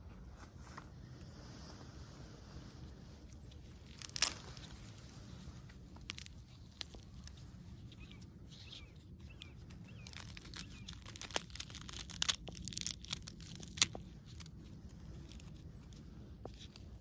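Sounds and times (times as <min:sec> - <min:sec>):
pomegranate rind cracking and tearing: 0:03.2 - 0:17.0.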